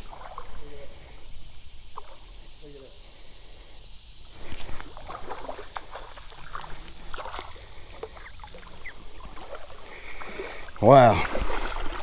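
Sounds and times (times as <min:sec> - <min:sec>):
water splashing and sloshing: 0:00.0 - 0:02.4, 0:04.3 - 0:12.0.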